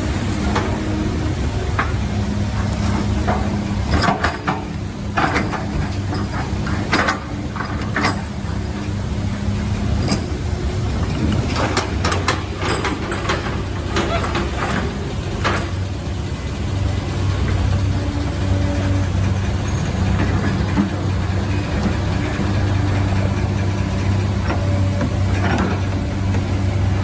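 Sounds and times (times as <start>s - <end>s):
heavy diesel engine under load: 0.0s - 27.0s.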